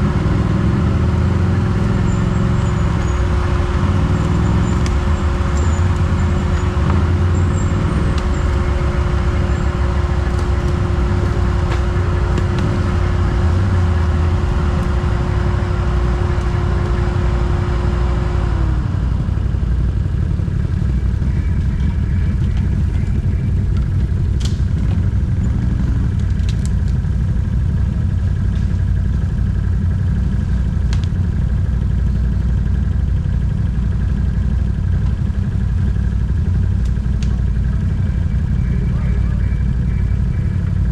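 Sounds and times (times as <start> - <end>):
atv engine low revs: 0.0 - 40.9.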